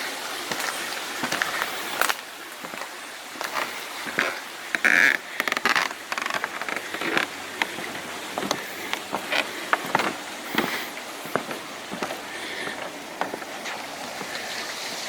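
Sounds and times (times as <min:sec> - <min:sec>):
footsteps crunching and scuffing: 0:00.4 - 0:14.4.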